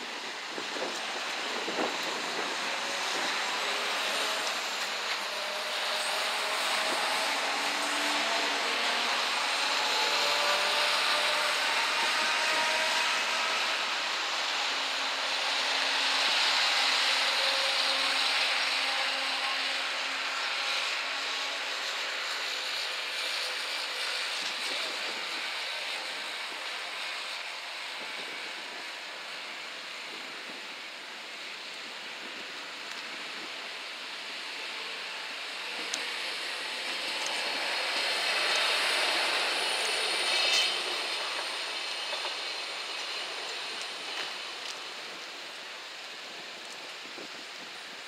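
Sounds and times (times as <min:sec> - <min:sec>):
steady road hiss: 0:00.0 - 0:48.0.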